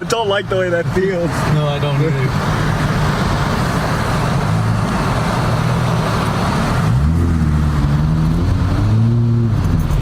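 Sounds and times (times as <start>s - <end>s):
tyre and road noise: 0.0s - 10.0s
car engine revving: 0.8s - 10.0s.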